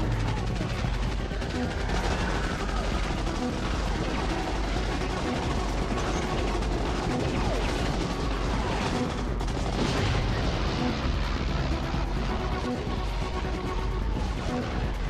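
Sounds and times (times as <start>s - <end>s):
explosions: 0.0s - 15.0s
gunfire: 0.0s - 15.0s
music: 0.0s - 15.0s.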